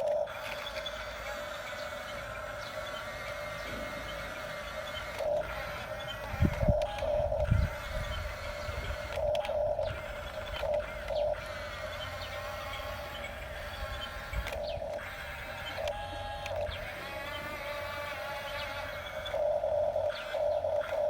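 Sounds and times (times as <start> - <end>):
toy electric motors whining: 0.0 - 21.0.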